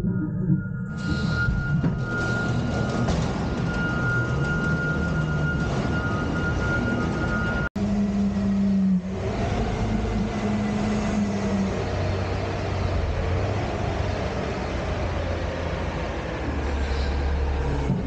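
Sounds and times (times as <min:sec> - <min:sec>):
garbage truck engine running: 0:00.0 - 0:18.0.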